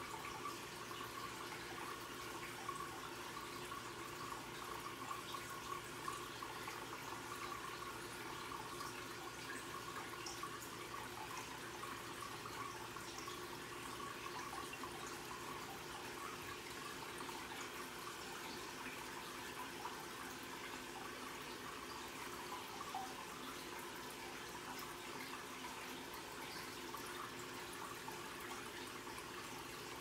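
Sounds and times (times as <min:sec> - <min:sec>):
water trickling: 0:00.0 - 0:30.0.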